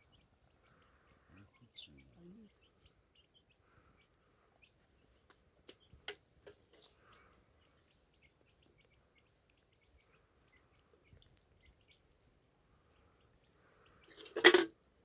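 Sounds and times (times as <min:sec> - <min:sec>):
small bird chirping: 0:00.0 - 0:14.4.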